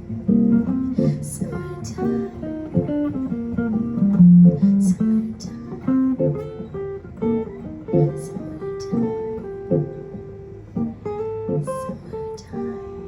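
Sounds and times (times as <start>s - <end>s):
electric guitar playing: 0.0s - 13.0s.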